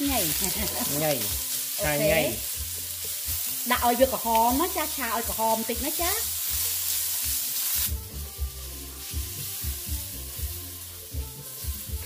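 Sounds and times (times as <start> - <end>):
background music with a beat: 0.0 - 12.0
ginger sizzling in oil: 0.0 - 12.0.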